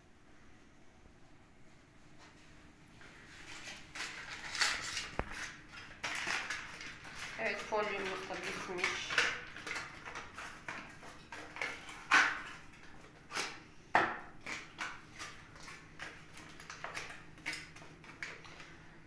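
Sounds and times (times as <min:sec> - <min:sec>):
kitchen foil crinkling and rustling: 0:03.0 - 0:13.6, 0:14.3 - 0:19.0.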